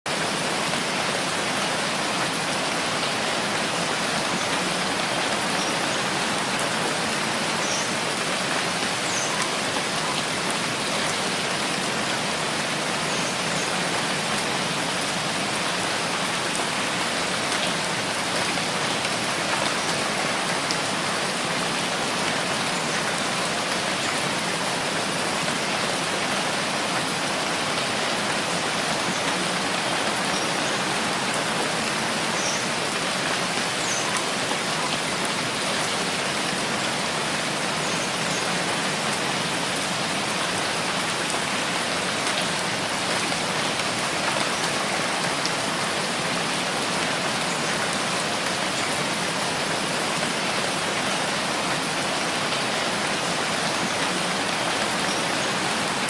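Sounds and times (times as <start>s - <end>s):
steady rainfall: 0.1s - 56.0s.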